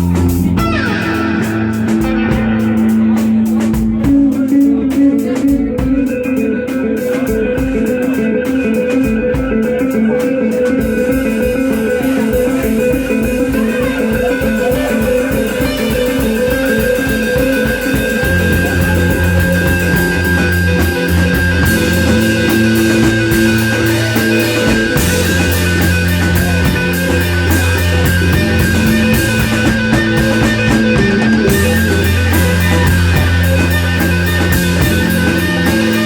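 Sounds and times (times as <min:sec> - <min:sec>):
electric guitars sustained notes: 0:00.0 - 0:36.0
heavy bass line: 0:00.0 - 0:36.0
steady drum beat: 0:00.0 - 0:36.0.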